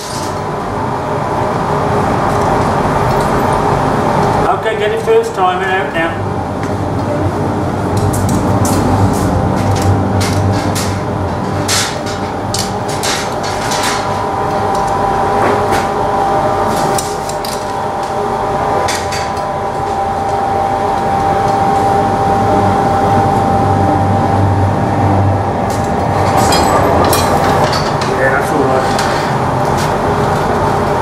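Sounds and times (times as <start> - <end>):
furnace and blower roaring: 0.0 - 31.0
steady whine: 0.0 - 31.0.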